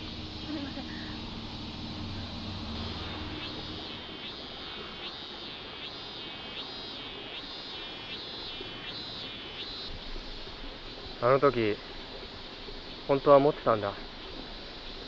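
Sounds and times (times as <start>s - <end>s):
cicada buzzing: 0.0s - 15.0s.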